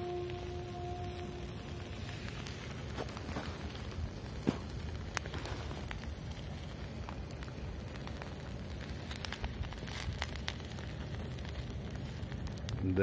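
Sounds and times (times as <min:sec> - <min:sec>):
campfire crackling: 0:00.0 - 0:13.0
steady hiss of burning wood: 0:00.0 - 0:13.0.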